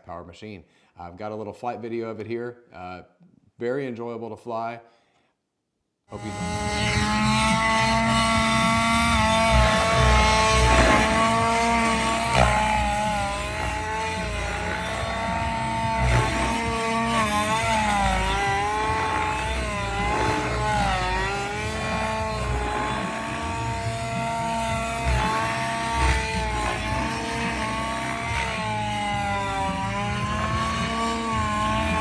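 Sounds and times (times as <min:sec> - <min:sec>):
model helicopter engine and rotor: 0:06.2 - 0:32.0.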